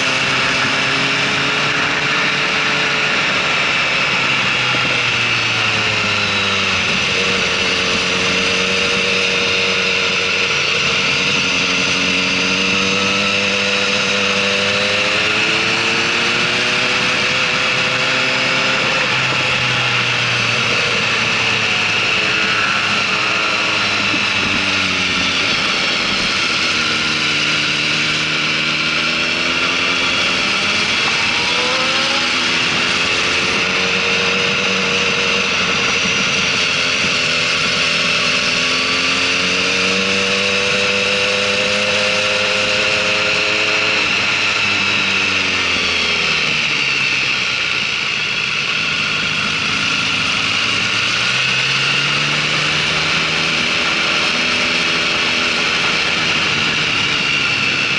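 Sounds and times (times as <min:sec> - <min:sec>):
motorcycle engines revving: 0:00.0 - 0:57.9
steady rushing noise: 0:00.0 - 0:57.9.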